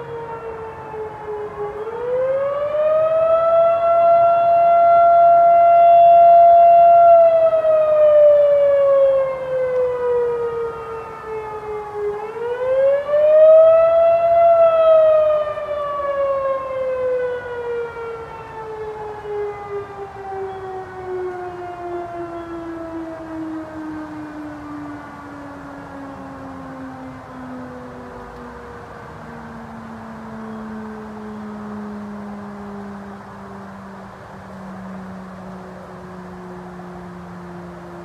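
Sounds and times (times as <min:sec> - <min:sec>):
fainter second siren: 0:00.0 - 0:38.0.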